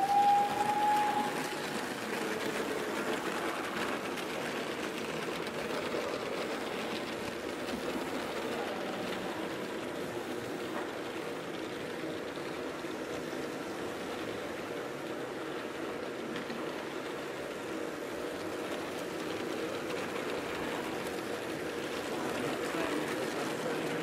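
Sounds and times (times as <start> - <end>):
toy train motors whirring: 0.0 - 24.0
wheels rattling on tin rails: 0.0 - 24.0.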